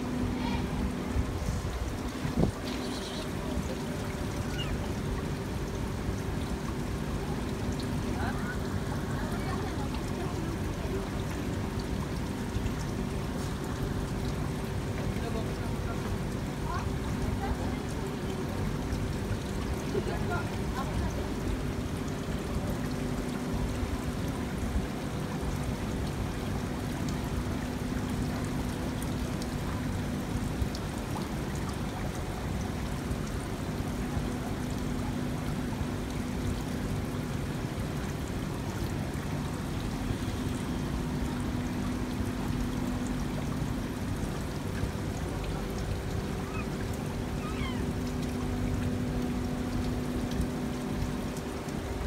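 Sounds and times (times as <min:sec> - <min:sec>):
water trickling and splashing: 0:00.0 - 0:52.0.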